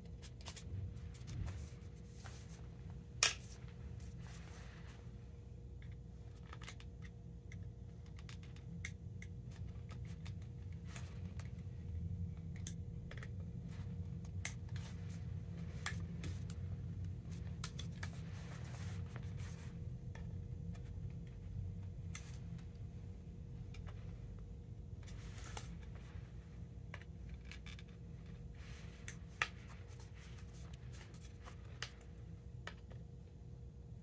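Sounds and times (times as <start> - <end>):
steady low hum: 0.0 - 34.0
awl clicking and scratching plastic: 5.8 - 33.2.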